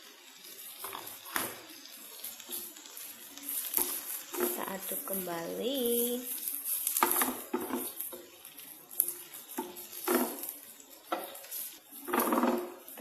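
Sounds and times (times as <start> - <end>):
frying sizzle: 0.0 - 13.0
spatula scraping wok: 0.0 - 13.0.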